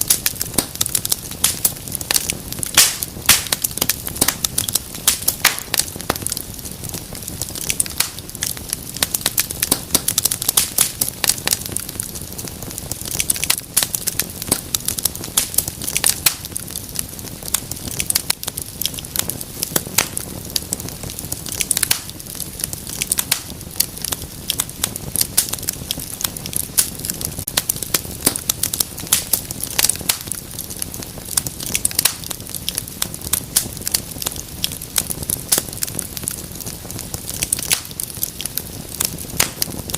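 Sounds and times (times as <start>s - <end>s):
hiss of burning: 0.0s - 39.9s
wood fire crackling: 0.0s - 39.9s.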